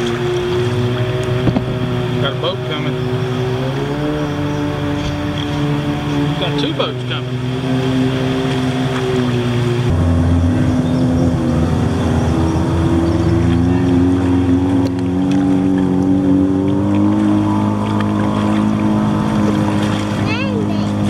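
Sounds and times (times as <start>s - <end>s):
motorboat engines humming: 0.0s - 21.0s.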